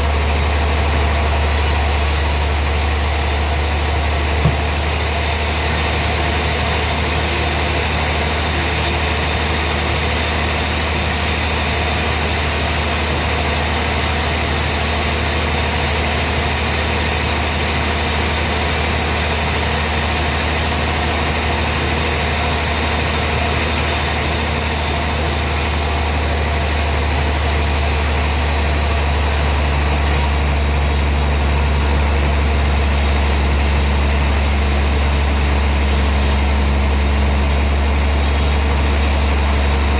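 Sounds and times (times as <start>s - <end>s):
sawmill machinery humming and hissing: 0.0s - 39.9s.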